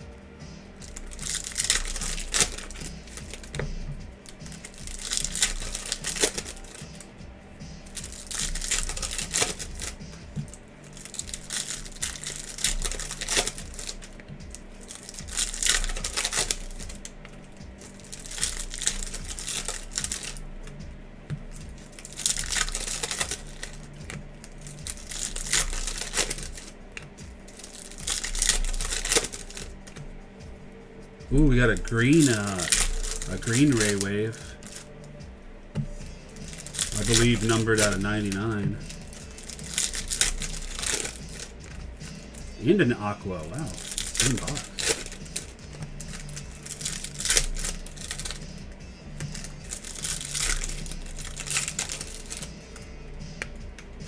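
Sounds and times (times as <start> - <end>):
cards being flipped through: 0.0 - 54.0
foil wrapper crinkling: 0.7 - 7.2, 7.8 - 30.1, 30.7 - 54.0.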